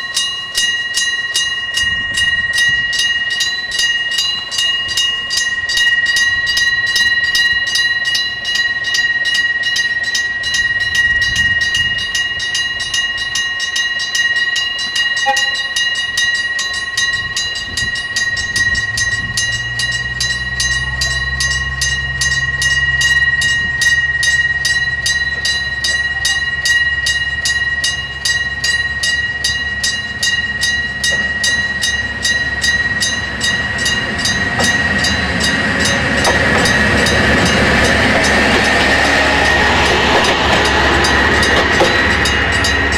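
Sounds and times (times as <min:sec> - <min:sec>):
level crossing bell ringing: 0:00.0 - 0:42.9
railcar rumbling past: 0:00.0 - 0:42.9.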